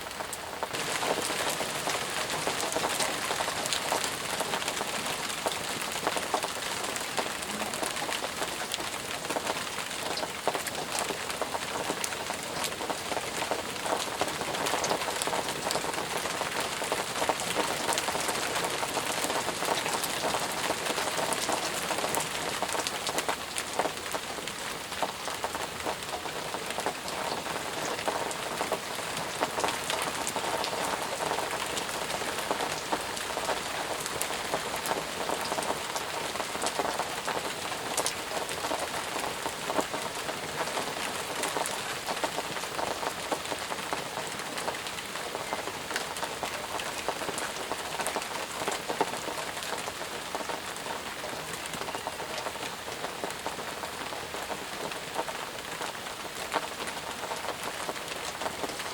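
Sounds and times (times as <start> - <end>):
heavy rain hiss: 0.0 - 58.6
raindrops ticking: 0.0 - 58.9.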